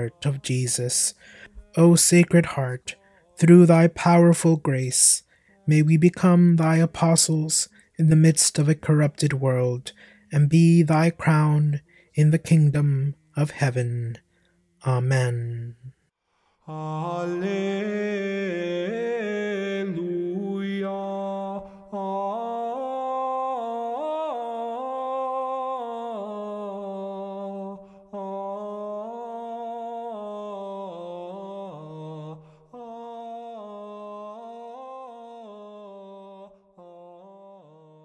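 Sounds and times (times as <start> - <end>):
unaccompanied chant singing: 0.0 - 9.3, 16.7 - 38.0.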